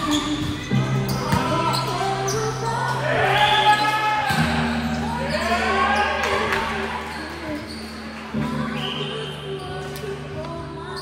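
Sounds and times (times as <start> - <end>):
shoes squeaking on floor: 0.0 - 10.2.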